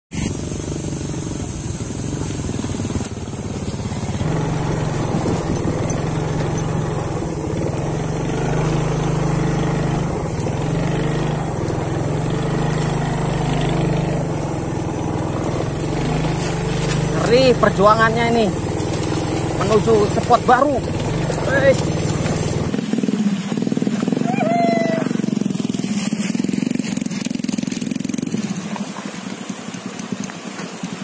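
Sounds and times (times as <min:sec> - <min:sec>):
scooter engine running: 0:00.1 - 0:31.0.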